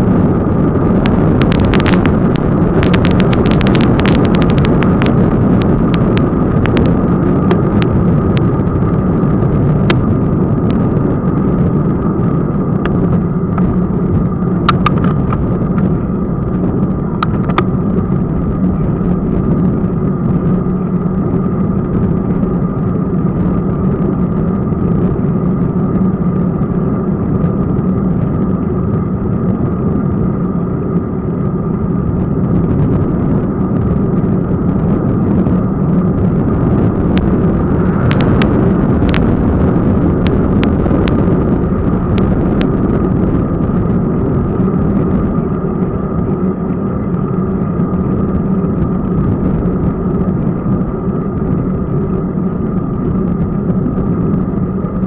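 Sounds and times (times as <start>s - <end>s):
tyre road rumble on asphalt: 0.0s - 55.0s
wind noise: 0.0s - 55.0s.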